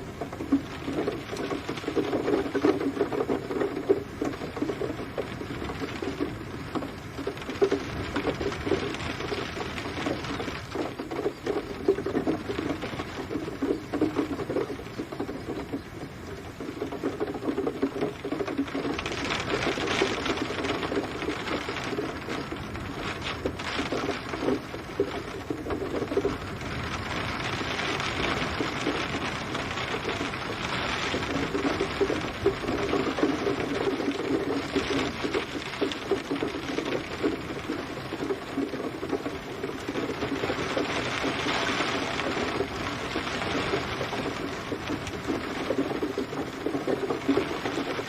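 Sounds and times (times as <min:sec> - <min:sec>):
rain drops ticking: 0:00.0 - 0:48.0
rain hissing: 0:00.0 - 0:48.0.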